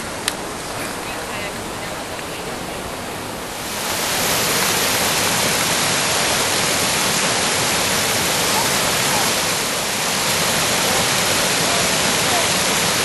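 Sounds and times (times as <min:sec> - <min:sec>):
rushing river rapids: 0:00.0 - 0:13.0.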